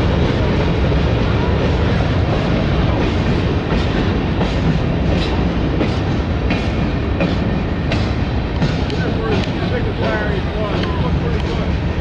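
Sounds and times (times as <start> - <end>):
clickety-clack of wheels: 0.0 - 12.0
train wheels rumbling on rails: 0.0 - 12.0.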